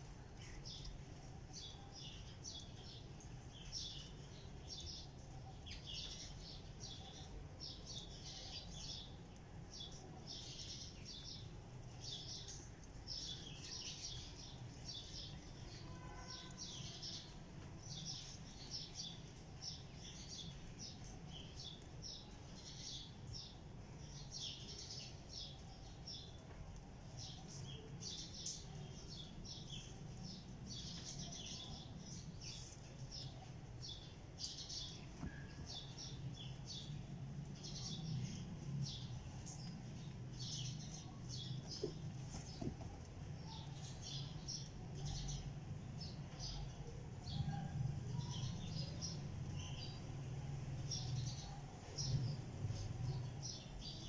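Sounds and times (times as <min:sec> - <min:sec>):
birds chirping: 0:00.1 - 0:54.0.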